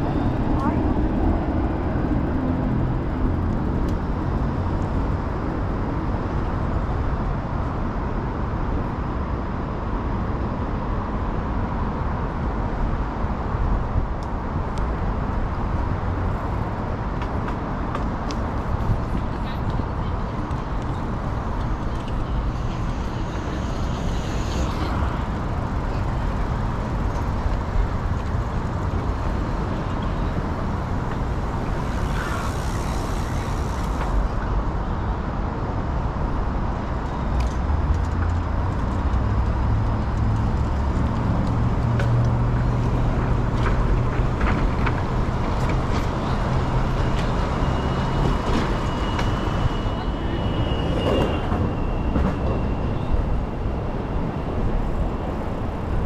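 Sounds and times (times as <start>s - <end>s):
bicycle rolling noise: 0.0s - 7.6s, 11.8s - 35.8s, 37.1s - 56.0s
passing vehicle rumble: 0.0s - 9.4s, 11.1s - 56.0s
road traffic passing: 0.0s - 56.0s.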